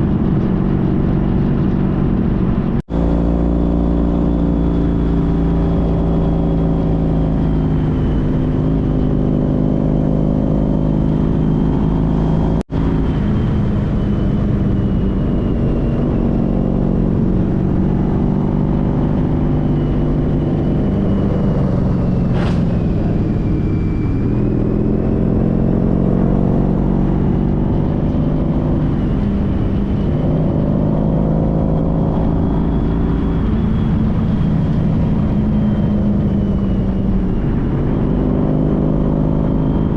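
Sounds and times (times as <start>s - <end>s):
motorcycle engine: 0.0s - 39.9s
road and wind noise: 0.0s - 39.9s.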